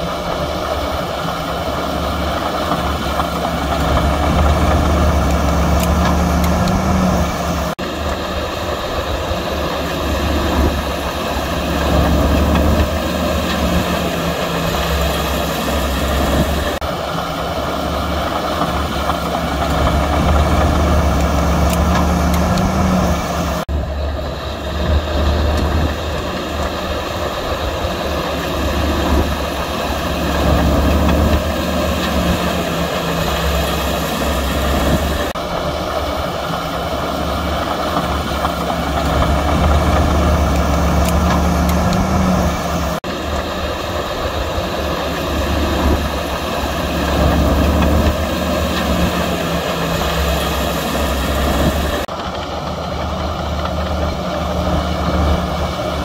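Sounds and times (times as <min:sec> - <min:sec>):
diesel engine drone: 0:00.0 - 0:56.0
high machine whine: 0:00.0 - 0:56.0.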